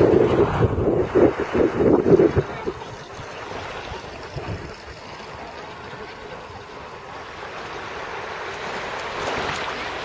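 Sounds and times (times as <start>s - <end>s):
small waves washing ashore: 0.0s - 10.0s.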